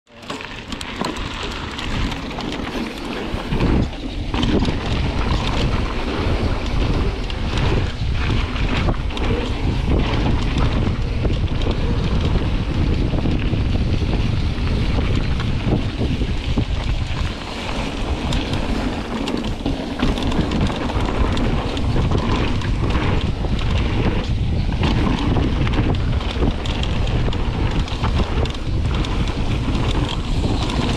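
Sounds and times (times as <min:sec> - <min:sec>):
bike knocks and rattles: 0:00.1 - 0:30.9
bike tyre noise on dirt: 0:00.1 - 0:30.9
wind buffeting microphone: 0:00.4 - 0:30.9.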